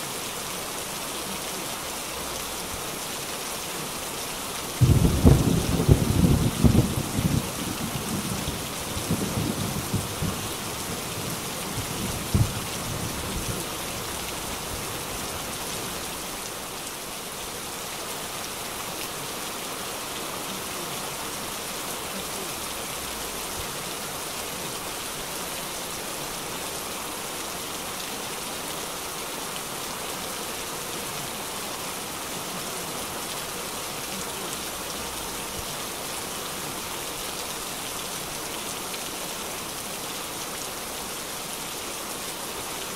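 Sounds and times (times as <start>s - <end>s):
heavy rain on street: 0.0s - 42.9s.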